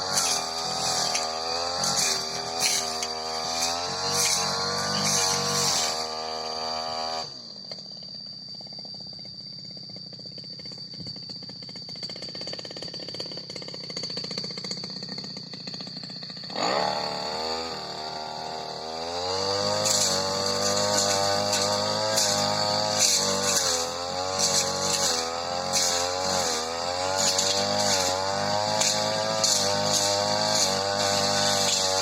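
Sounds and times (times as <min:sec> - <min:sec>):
brush cutter engine revving and idling: 0:00.0 - 0:07.7, 0:10.7 - 0:32.0.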